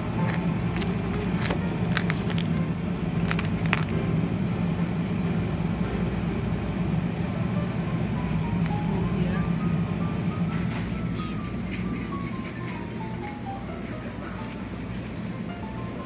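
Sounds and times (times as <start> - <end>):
refrigerated display hum: 0.0 - 16.0.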